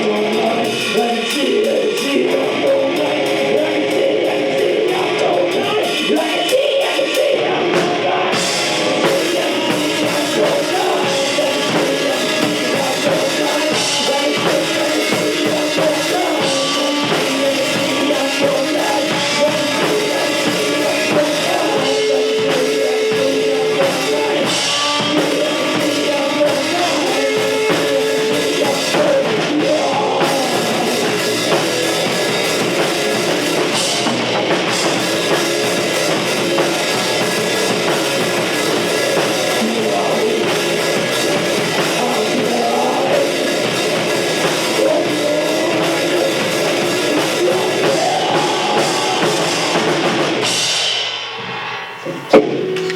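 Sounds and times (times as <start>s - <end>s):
drum kit: 0.0s - 52.9s
rock band playing: 0.0s - 52.9s.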